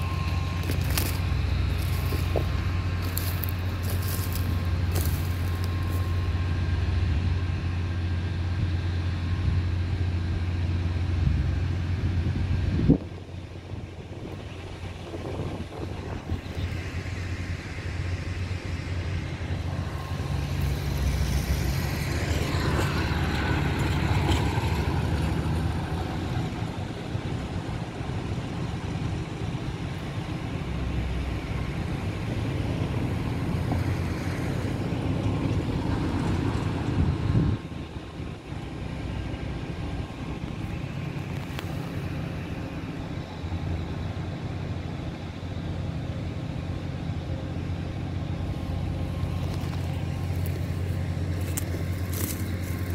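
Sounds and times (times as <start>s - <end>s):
vehicle engine humming: 0.0s - 52.9s.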